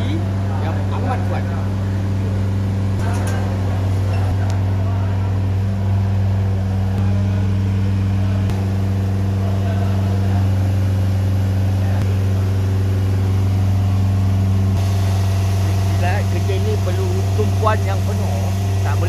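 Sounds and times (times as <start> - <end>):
truck diesel engine humming: 0.0 - 19.0.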